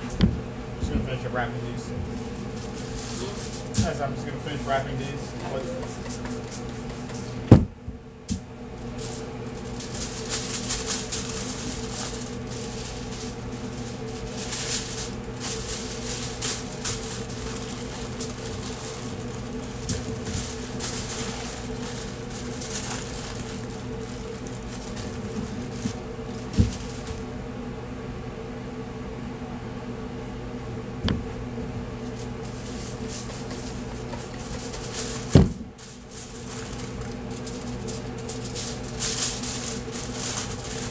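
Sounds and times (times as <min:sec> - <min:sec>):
machine hum: 0:00.0 - 0:40.9
aluminium foil crinkling: 0:02.0 - 0:07.4, 0:08.3 - 0:27.3, 0:32.0 - 0:40.9.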